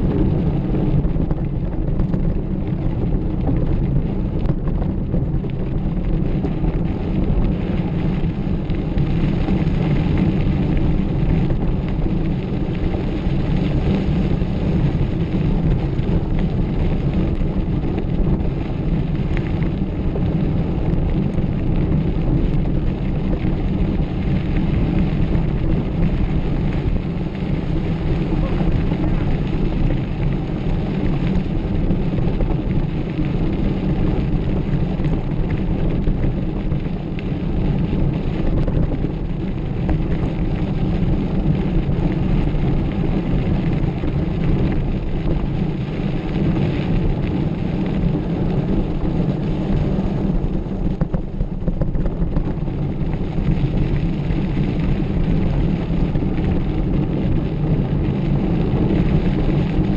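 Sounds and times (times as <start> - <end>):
bike rattling over rough trail: 0.0 - 59.9
wind rushing on microphone: 0.0 - 59.9.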